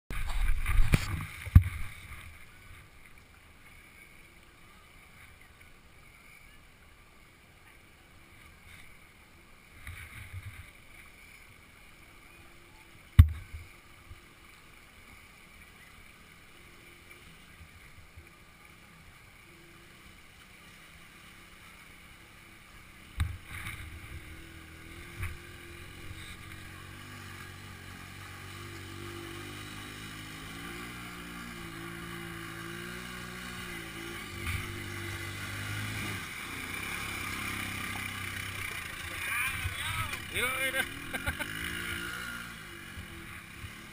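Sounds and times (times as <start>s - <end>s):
quad bike engine approaching: 0.1s - 43.9s.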